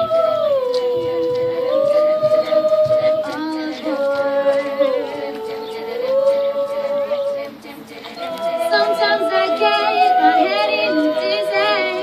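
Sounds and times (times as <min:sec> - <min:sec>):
women singing in close harmony: 0:00.0 - 0:12.0.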